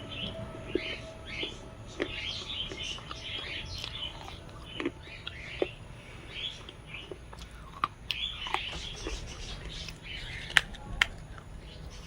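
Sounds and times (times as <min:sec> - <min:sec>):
chewing crunchy clay: 0:02.0 - 0:12.0.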